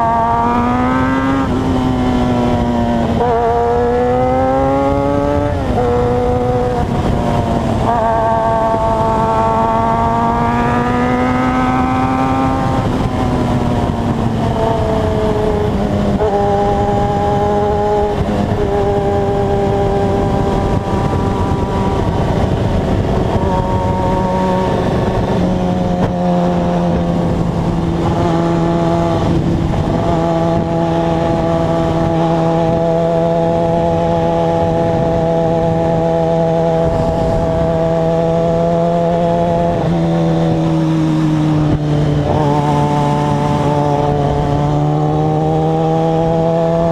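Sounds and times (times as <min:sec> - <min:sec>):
motorcycle engine revving: 0:00.0 - 0:46.9
wind noise: 0:00.0 - 0:46.9.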